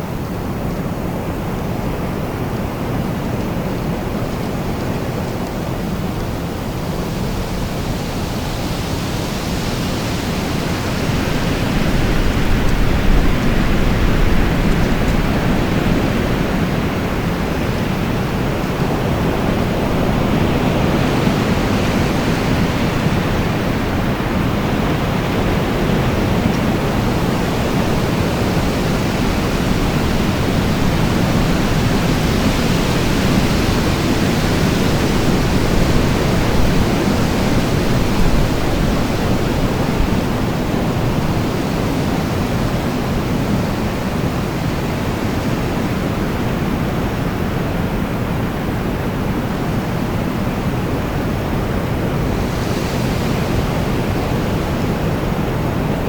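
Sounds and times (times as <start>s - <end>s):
rain and wind rushing: 0.0s - 56.0s.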